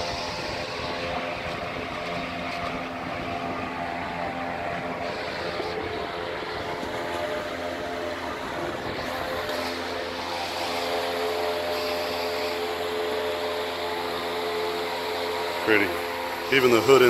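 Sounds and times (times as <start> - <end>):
machine hum with constant tones: 0.0 - 17.0.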